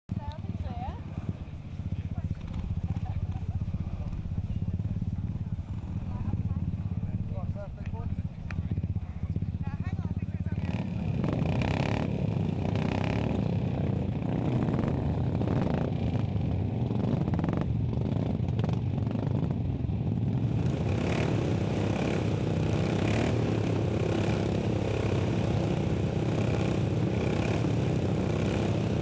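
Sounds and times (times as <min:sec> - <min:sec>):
racing lawn mower engines: 0:00.1 - 0:29.0.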